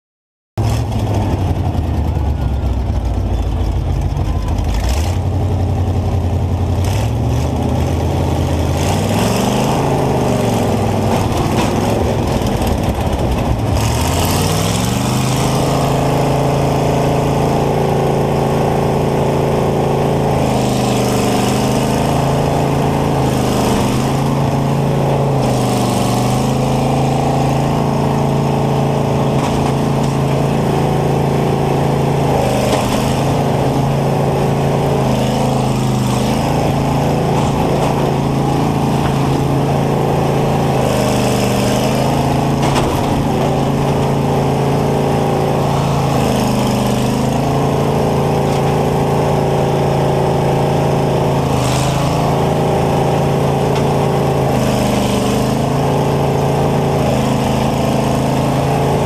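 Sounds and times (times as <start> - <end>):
harvester engine revving: 0.6 - 59.0.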